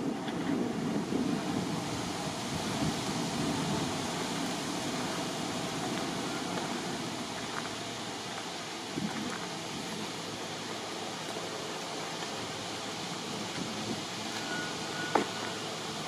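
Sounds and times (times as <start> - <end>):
outdoor rushing hiss: 0.0 - 16.0.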